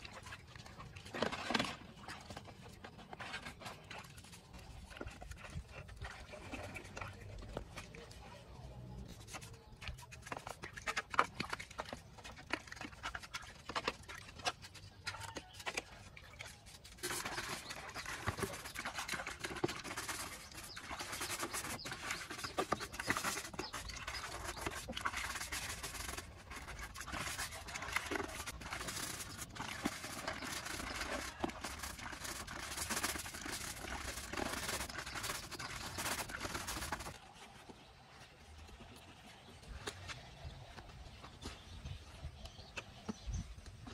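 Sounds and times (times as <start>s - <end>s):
brush scrubbing wet plastic: 0.0s - 40.4s.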